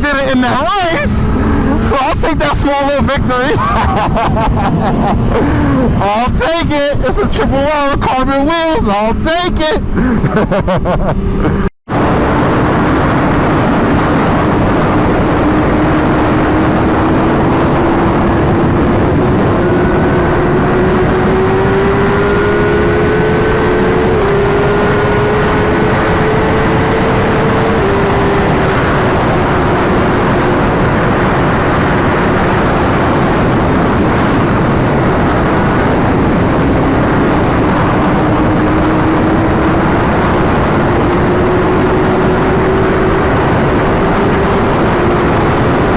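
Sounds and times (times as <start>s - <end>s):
motorcycle engine accelerating: 0.0s - 45.9s
wind rushing over microphone: 0.0s - 45.9s.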